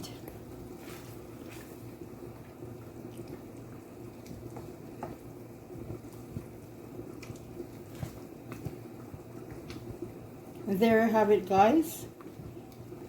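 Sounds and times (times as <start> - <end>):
pot simmering with bubbling pops: 0.0 - 13.0.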